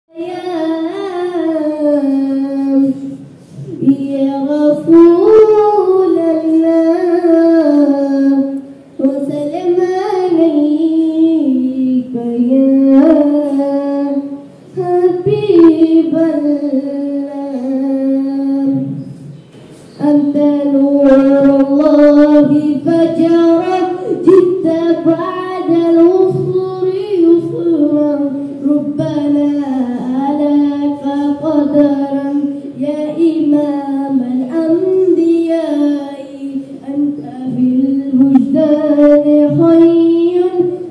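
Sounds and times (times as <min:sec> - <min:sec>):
boy singing unaccompanied: 0:00.1 - 0:19.1, 0:20.0 - 0:40.9.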